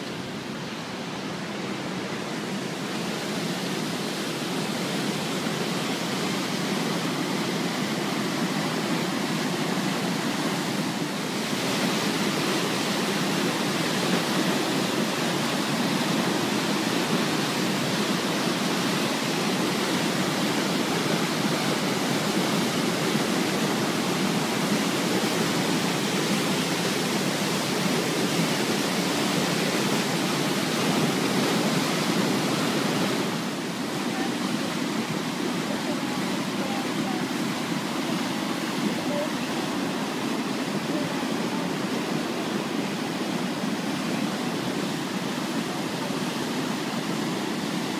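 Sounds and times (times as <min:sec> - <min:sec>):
water rushing over weir: 0:00.0 - 0:47.9.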